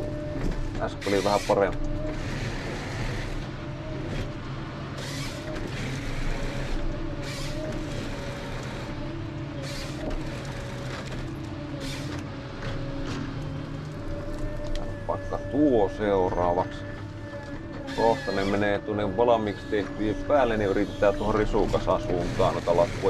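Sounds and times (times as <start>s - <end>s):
harvester engine and hydraulics: 0.0s - 23.0s.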